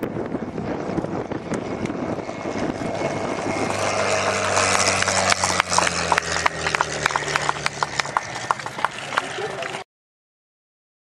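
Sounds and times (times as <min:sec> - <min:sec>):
aircraft piston engine drone: 0:00.0 - 0:09.8
wind buffeting microphone: 0:00.0 - 0:09.8.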